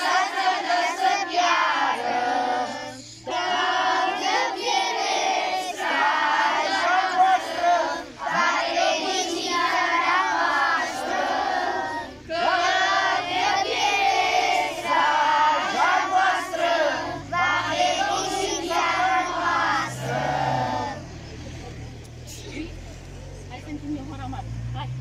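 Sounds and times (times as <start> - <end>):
children singing in unison: 0.0 - 21.2.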